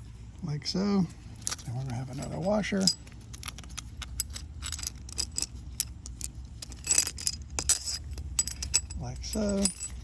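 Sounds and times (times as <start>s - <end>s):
metal washers clinking: 1.2s - 10.0s.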